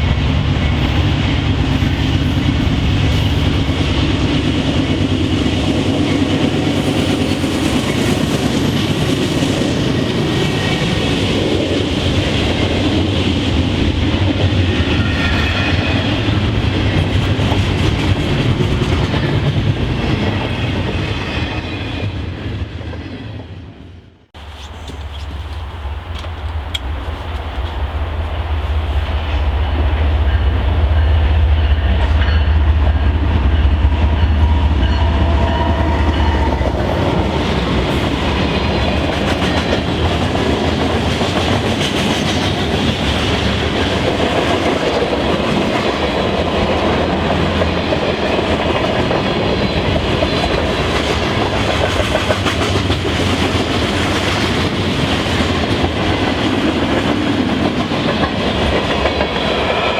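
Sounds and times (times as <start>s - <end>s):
train cars clickety-clack: 0.0s - 23.5s, 24.4s - 59.9s
diesel locomotive drone: 0.0s - 59.9s.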